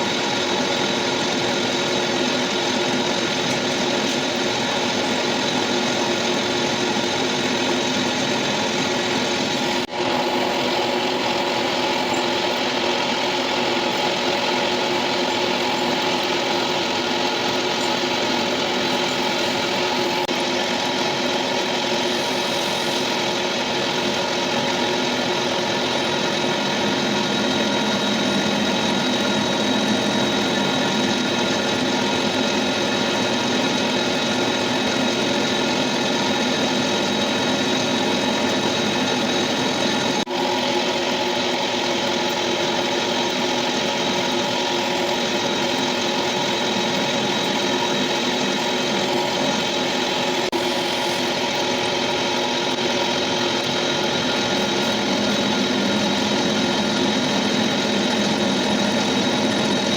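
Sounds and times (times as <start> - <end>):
metal lathe whining: 0.0 - 59.9.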